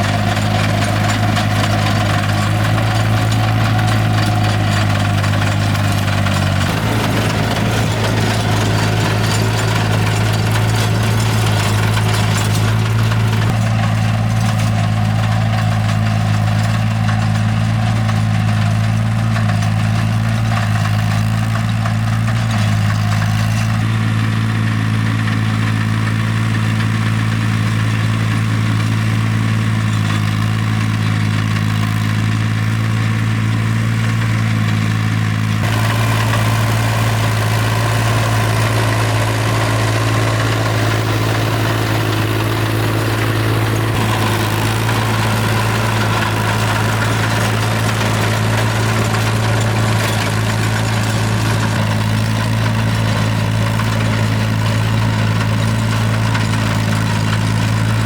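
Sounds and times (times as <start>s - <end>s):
engine running steadily: 0.0s - 58.0s
rough noisy engine sound: 0.0s - 58.0s.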